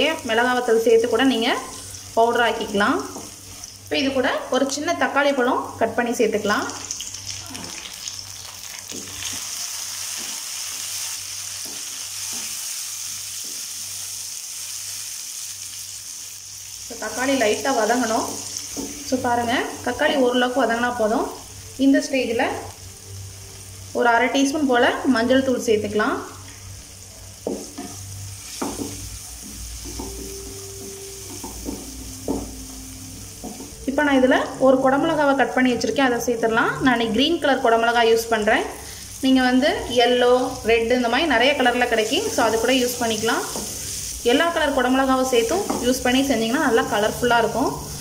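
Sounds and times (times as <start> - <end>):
vegetables sizzling in hot oil: 0.0 - 48.0.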